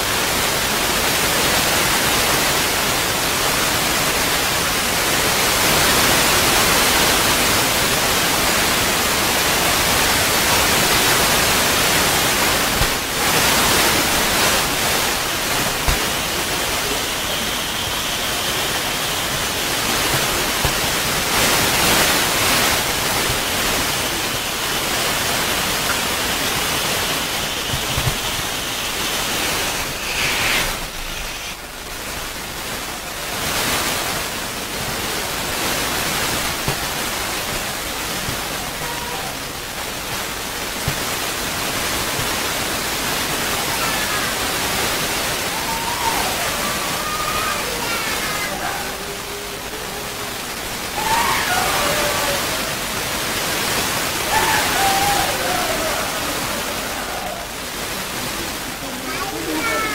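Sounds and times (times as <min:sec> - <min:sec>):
loud rushing static hiss: 0:00.0 - 0:59.9.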